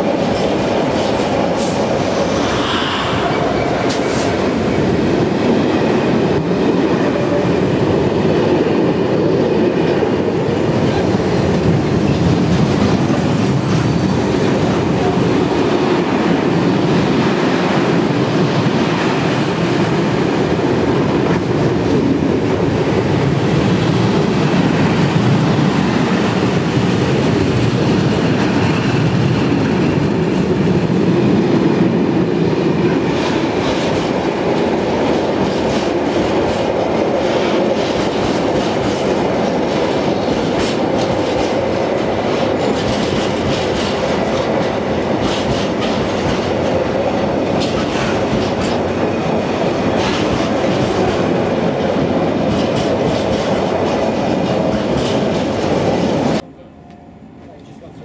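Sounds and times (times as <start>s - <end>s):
train wheels rumbling on rail: 0.0s - 56.5s.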